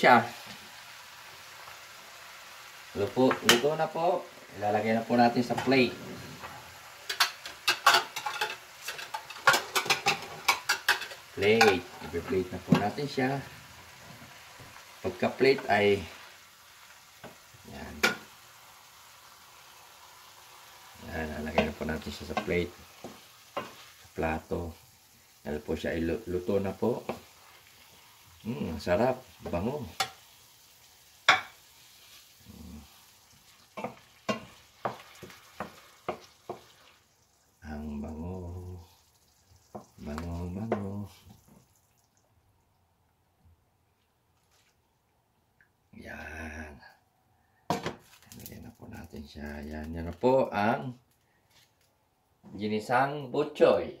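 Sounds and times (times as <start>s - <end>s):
faint sizzle: 0.0s - 43.2s, 43.8s - 54.0s.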